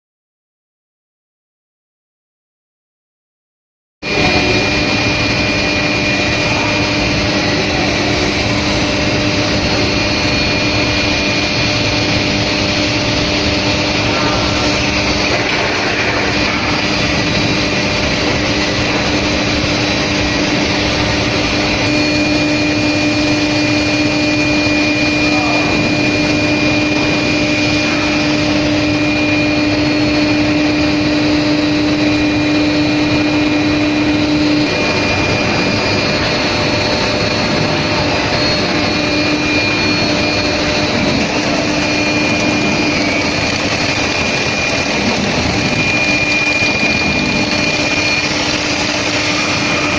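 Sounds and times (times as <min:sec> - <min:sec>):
high whine: 0:04.0 - 0:49.9
low hum: 0:04.0 - 0:49.9
machinery rushing: 0:04.0 - 0:49.9.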